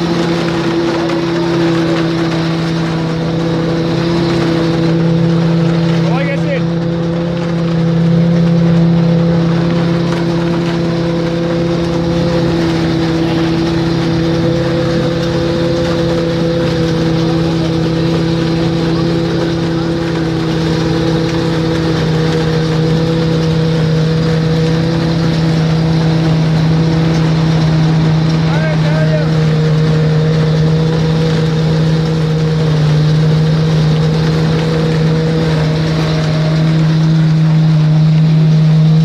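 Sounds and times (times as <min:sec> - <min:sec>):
husking machine noise: 0:00.0 - 0:39.0
tractor engine humming: 0:00.0 - 0:39.0.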